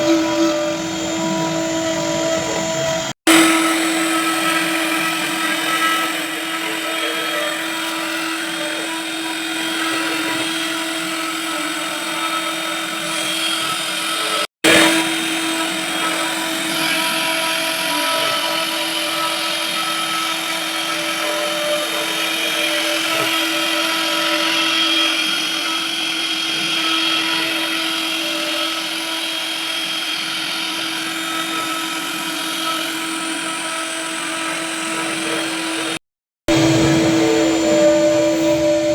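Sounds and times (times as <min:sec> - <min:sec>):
lathe machine humming with whine: 0:00.0 - 0:38.9.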